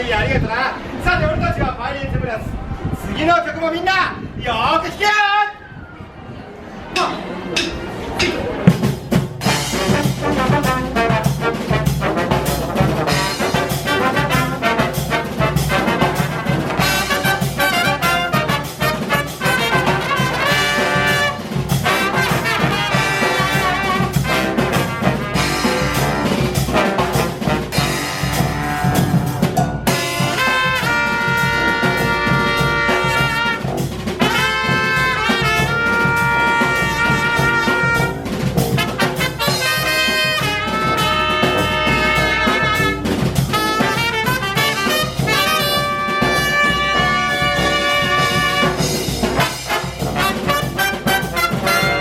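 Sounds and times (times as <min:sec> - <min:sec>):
brass band playing: 0:07.0 - 0:52.0
trombone: 0:09.4 - 0:52.0
trumpet: 0:09.4 - 0:52.0.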